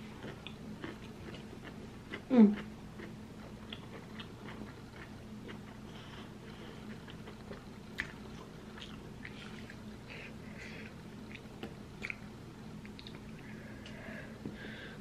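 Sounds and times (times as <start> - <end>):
person chewing noodles: 0.0 - 12.2
steady low hum: 0.0 - 15.0.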